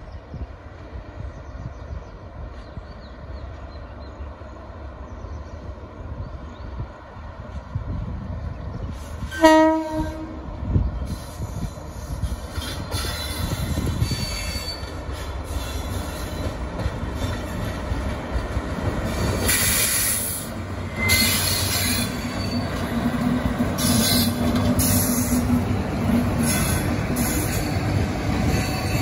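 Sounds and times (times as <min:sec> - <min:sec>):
locomotive hum: 0:00.0 - 0:29.0
train wheels rumbling on rail: 0:00.0 - 0:29.0.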